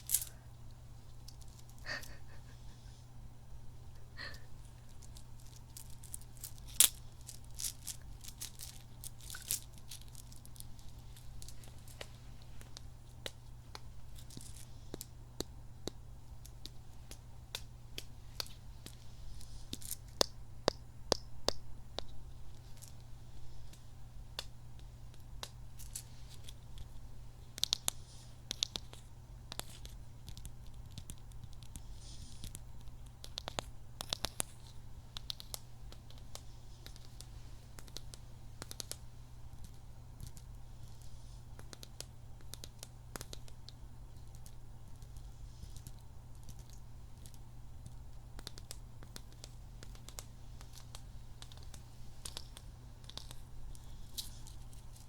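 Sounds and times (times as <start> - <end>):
hands handling small objects: 0.0 - 2.8, 3.9 - 55.0
steady low hum: 0.0 - 55.0.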